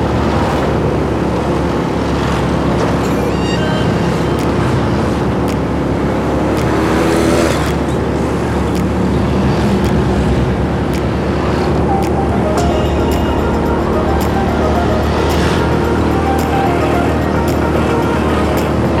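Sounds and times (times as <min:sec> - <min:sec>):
traffic passing: 0:00.0 - 0:19.0.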